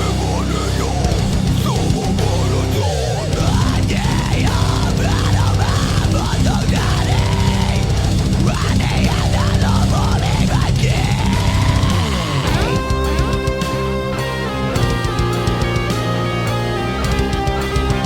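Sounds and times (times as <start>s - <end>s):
bass: 0.0s - 18.0s
distorted electric guitar lead: 0.0s - 18.0s
drums: 0.0s - 18.0s.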